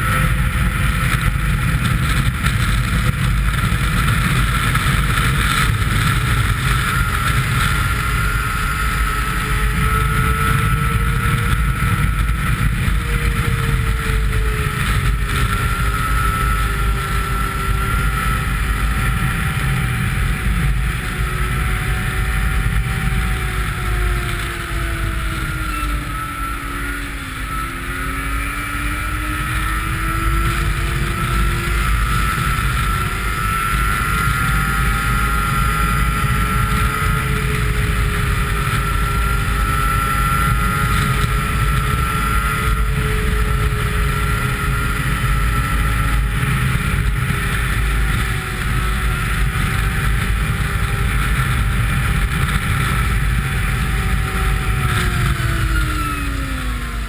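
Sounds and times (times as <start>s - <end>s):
snowmobile engine: 0.0s - 57.0s
wind rush on microphone: 0.0s - 57.0s.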